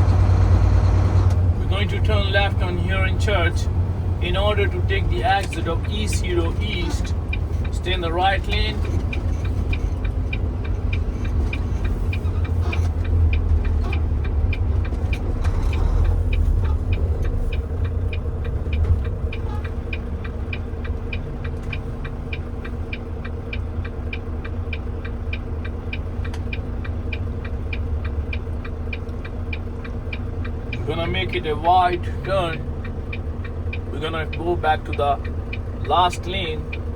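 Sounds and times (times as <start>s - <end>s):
truck engine rumbling: 0.0s - 36.9s
turn signal ticking: 1.2s - 36.9s.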